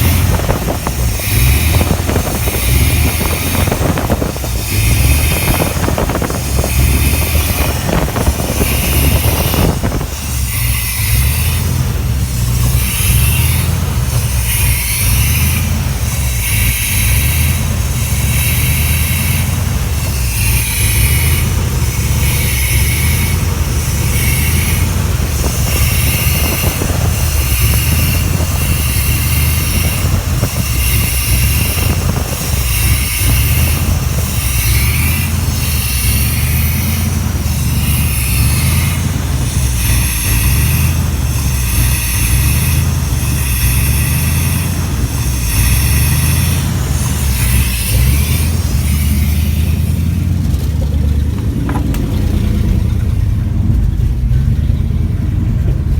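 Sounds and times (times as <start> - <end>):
truck engine surging idle: 0.0 - 55.9.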